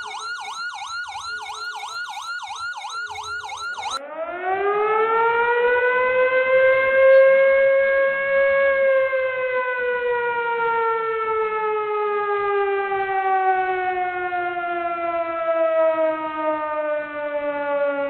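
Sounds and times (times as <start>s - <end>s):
siren falling tone: 0.0s - 18.0s.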